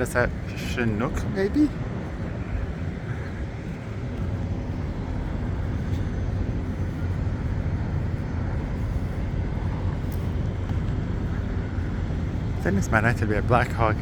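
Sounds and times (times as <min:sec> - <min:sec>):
distant engine rumble: 0:00.0 - 0:14.0.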